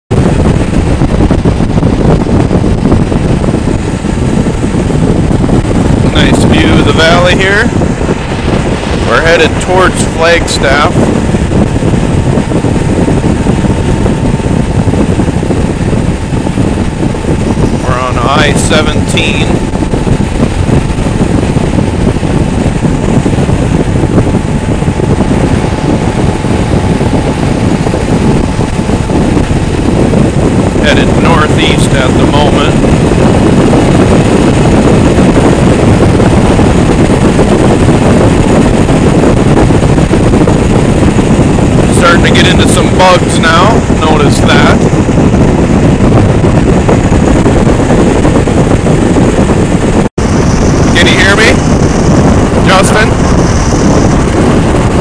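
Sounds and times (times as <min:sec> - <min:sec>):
wind rush on microphone: 0:00.0 - 0:55.0
motorcycle engine cruising: 0:00.1 - 0:55.0.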